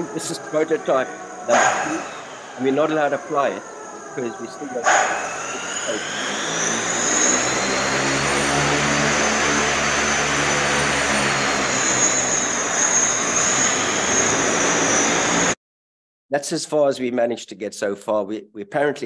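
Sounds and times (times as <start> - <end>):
high motor whine: 0.0 - 15.6
propeller motors droning: 0.0 - 15.6.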